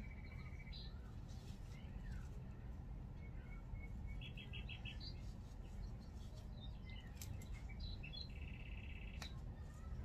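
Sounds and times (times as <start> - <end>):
faint bird chirps: 0.0 - 10.0
steady low hum: 0.0 - 10.0.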